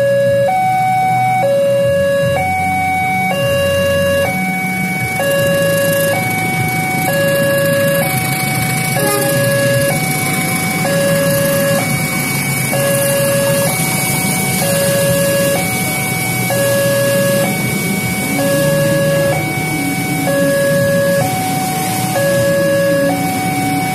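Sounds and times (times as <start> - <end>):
level crossing two-tone alarm: 0.0 - 23.9
low engine rumble: 0.0 - 23.9.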